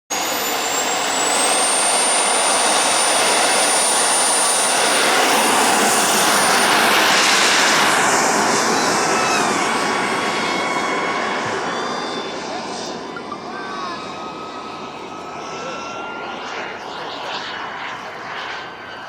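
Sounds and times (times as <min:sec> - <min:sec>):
model jet turbine engine whining: 0:00.1 - 0:19.0.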